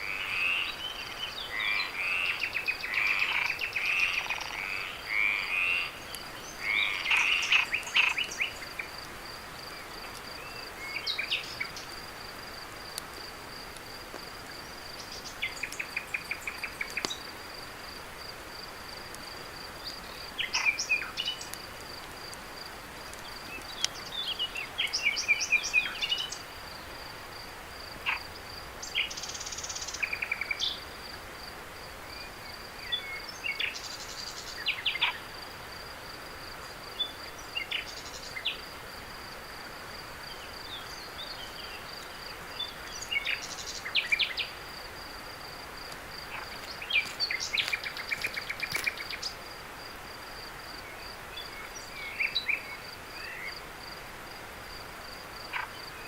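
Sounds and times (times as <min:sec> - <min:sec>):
cricket trilling: 0:00.0 - 0:31.5, 0:32.1 - 0:56.0
rapid insect chirping: 0:00.0 - 0:56.0.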